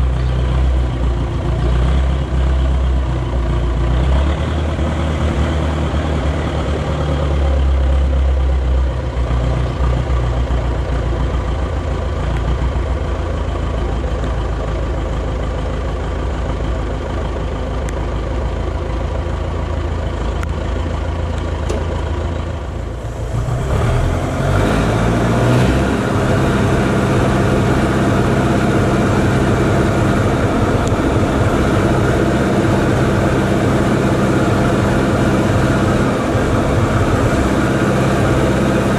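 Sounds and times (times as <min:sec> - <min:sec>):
forklift engine running: 0:00.0 - 0:38.9.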